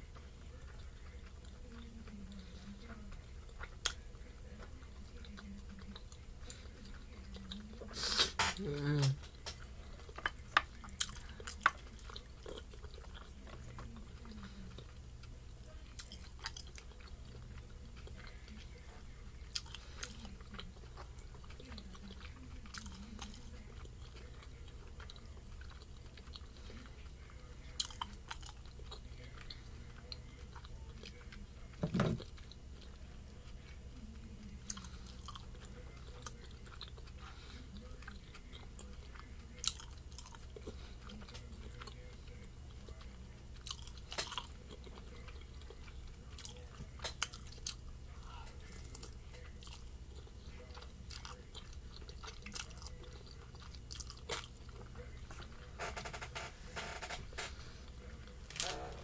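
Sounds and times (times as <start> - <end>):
wet chewing smacks and clicks: 0.0 - 55.6.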